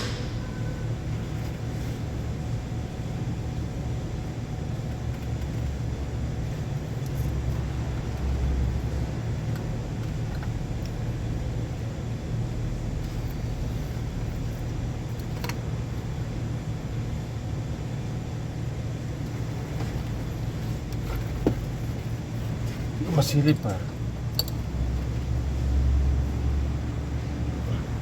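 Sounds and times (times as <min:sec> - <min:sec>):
low motor rumble: 0:00.0 - 0:28.0.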